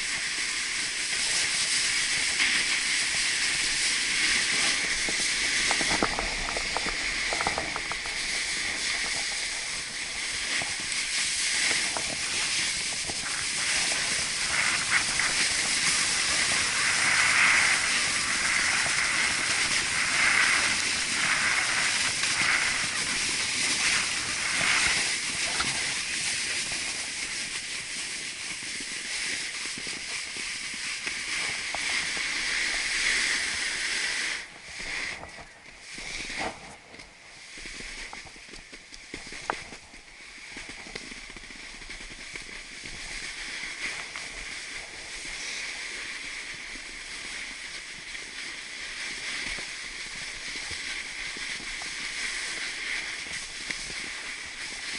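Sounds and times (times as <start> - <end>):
snowboard hissing on snow: 0.0 - 54.9.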